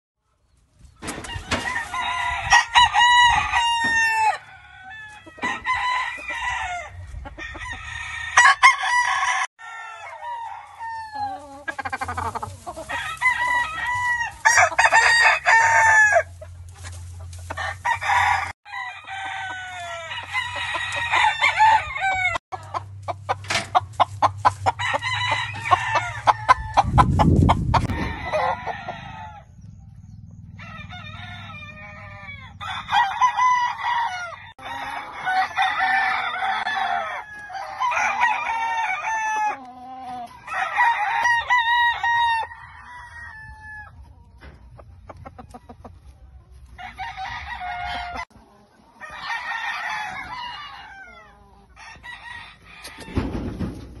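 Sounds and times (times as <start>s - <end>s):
chickens clucking: 0.4s - 8.8s, 9.8s - 54.0s
roosters crowing: 1.0s - 54.0s.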